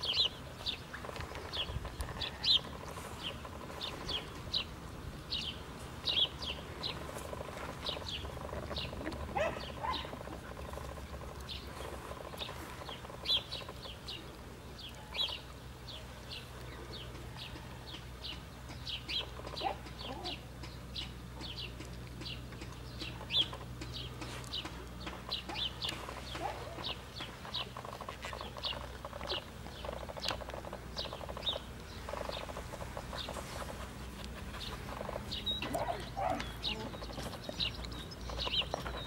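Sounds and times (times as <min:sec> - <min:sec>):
low steady hum: 0:00.0 - 0:39.0
small birds chirping: 0:00.0 - 0:39.0.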